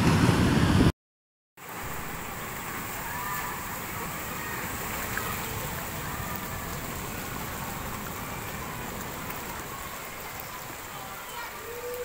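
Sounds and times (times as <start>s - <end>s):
floodwater rushing: 1.6s - 12.0s.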